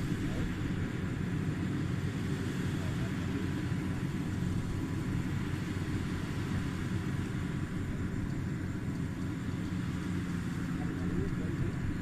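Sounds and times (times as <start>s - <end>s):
combine harvester engine rumble: 0.0s - 12.0s.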